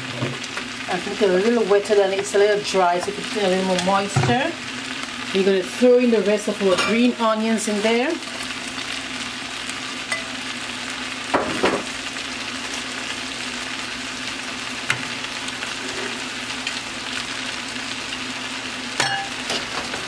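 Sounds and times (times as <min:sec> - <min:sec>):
noodles sizzling in a pot: 0:00.0 - 0:20.0.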